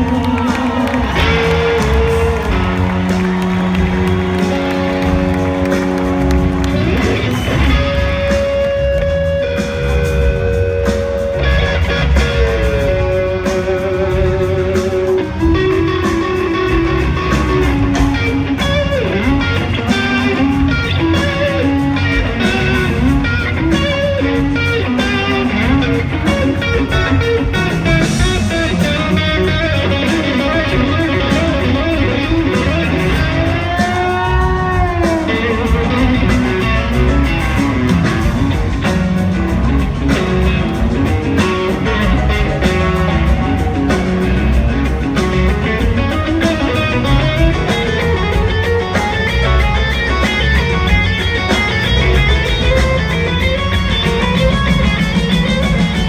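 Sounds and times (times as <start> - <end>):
electric guitar rock solo: 0.0 - 56.0
rock band playing: 0.0 - 56.0.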